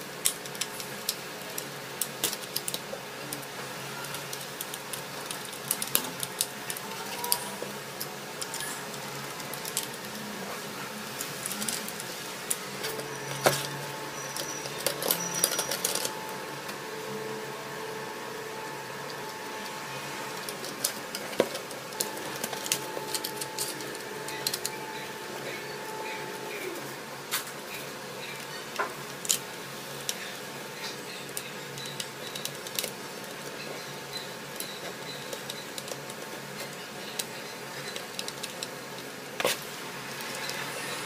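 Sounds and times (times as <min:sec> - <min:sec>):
steady background hum: 0:00.0 - 0:41.0
plastic parts and screws clicking: 0:00.2 - 0:10.3, 0:11.2 - 0:16.8, 0:19.0 - 0:26.2, 0:28.4 - 0:39.6.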